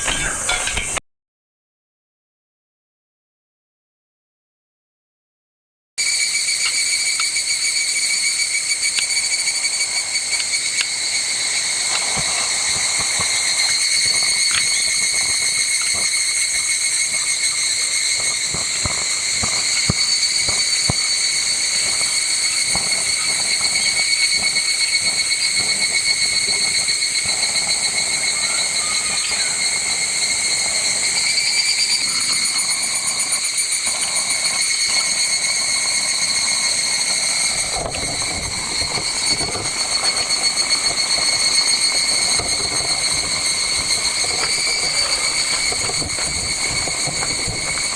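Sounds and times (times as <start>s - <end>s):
cicadas shrilling: 0.0s - 1.0s, 6.0s - 47.9s.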